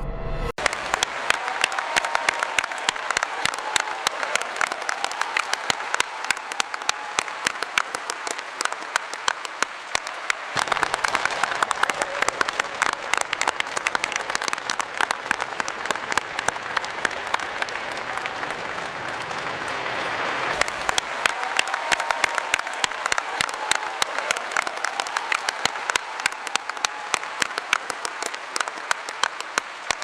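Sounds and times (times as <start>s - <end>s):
audience applause: 0.6s - 30.0s.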